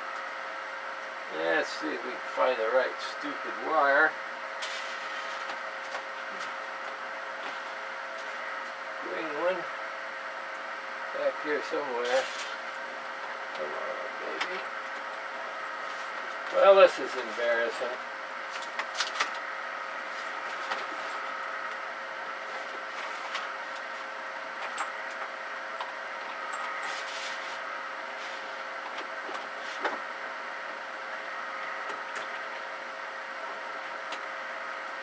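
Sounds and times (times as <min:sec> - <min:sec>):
cooling blower whirring: 0:00.0 - 0:35.0.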